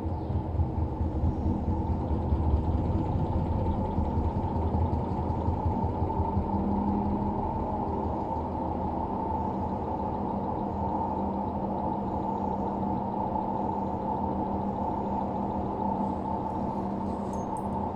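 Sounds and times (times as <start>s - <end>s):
steady hum: 0.0s - 17.9s.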